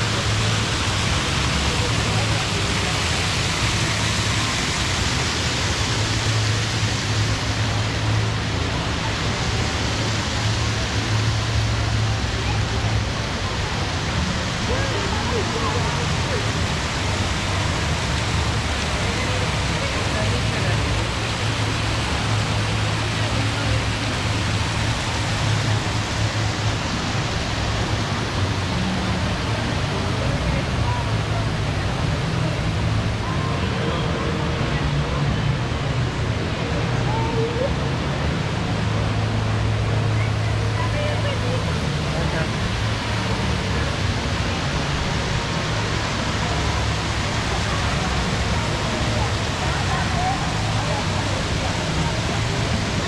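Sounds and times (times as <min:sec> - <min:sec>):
indoor waterfall rushing: 0:00.0 - 0:53.0.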